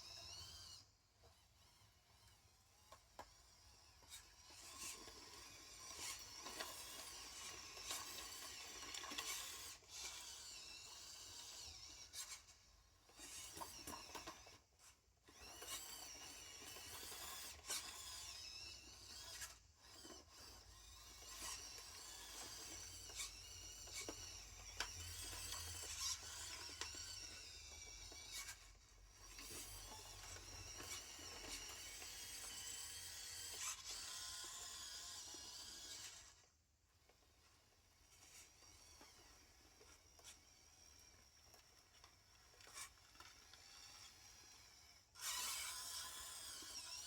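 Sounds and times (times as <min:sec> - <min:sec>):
small electric motor whine: 0:00.0 - 0:47.0.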